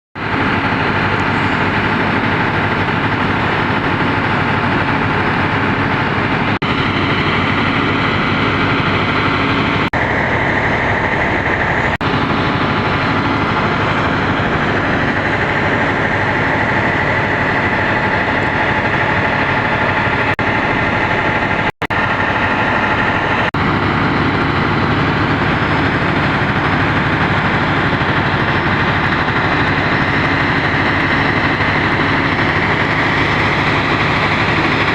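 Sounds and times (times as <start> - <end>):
locomotive engine humming: 0.2 - 34.9.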